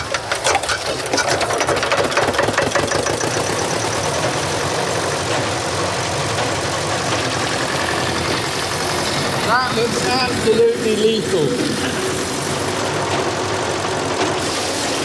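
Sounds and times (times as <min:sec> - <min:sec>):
engine running: 0:00.0 - 0:15.0
hay baler mechanical clatter: 0:00.0 - 0:15.0.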